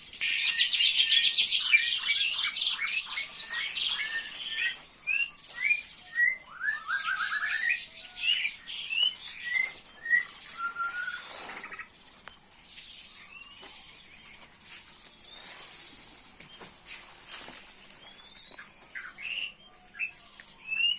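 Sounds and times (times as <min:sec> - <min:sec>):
small songbirds chirping: 0:00.0 - 0:20.9.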